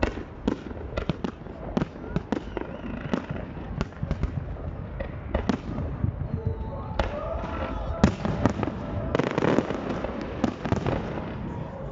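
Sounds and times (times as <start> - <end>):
distant fireworks rumble: 0.0 - 11.9
fireworks sharp bangs: 0.0 - 11.9.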